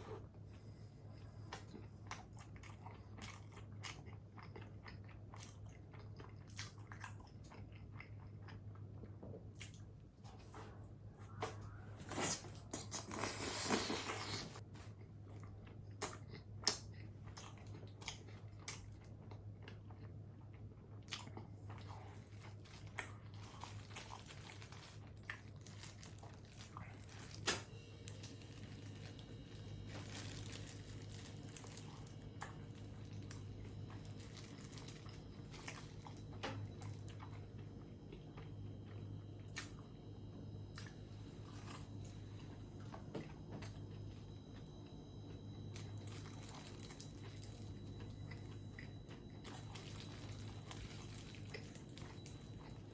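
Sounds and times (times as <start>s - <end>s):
steady low hum: 0.0s - 52.9s
person chewing and crunching: 0.5s - 10.6s, 11.4s - 39.9s, 40.7s - 52.9s.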